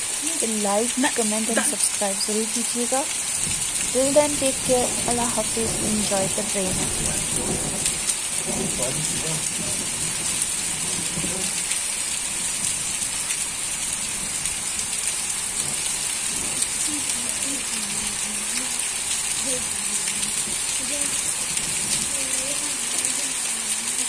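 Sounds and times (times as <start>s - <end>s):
rain on concrete: 0.0s - 24.0s.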